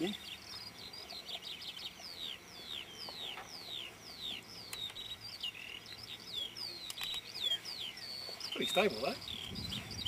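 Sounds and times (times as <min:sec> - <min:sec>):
birds whistling: 0:00.0 - 0:10.0
short bird chirps: 0:00.2 - 0:10.0.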